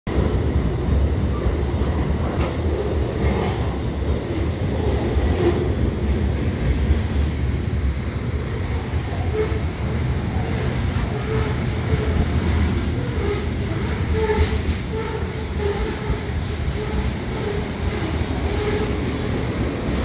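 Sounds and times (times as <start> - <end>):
train rumbling: 0.1 - 20.0.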